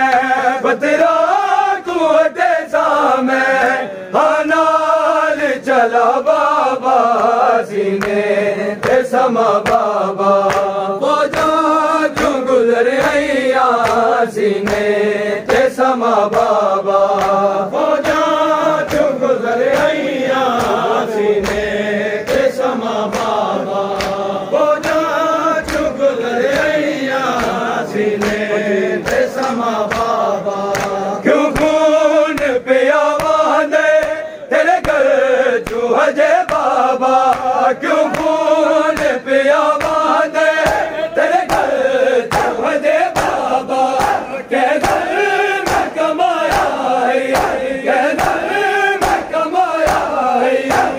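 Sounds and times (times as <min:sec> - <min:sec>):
men chanting together: 0:00.0 - 0:50.9
hands slapping bare chests: 0:07.9 - 0:08.2, 0:08.8 - 0:50.9.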